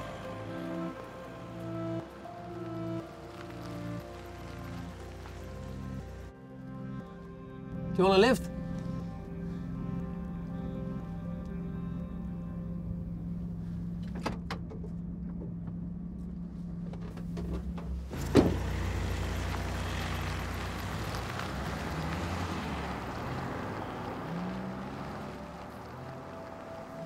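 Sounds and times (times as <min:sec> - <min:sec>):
van engine hum: 0:00.0 - 0:27.0.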